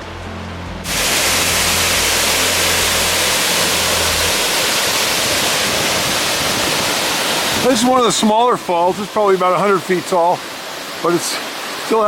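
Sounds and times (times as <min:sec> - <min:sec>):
waterfall rushing: 0:00.8 - 0:12.0.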